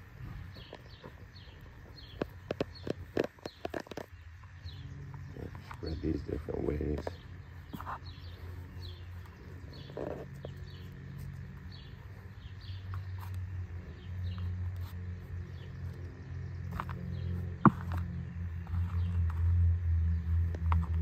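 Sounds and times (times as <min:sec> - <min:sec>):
hands rustling soil: 0:00.0 - 0:21.0
small birds chirping: 0:00.0 - 0:21.0
steady low rumble: 0:00.0 - 0:21.0.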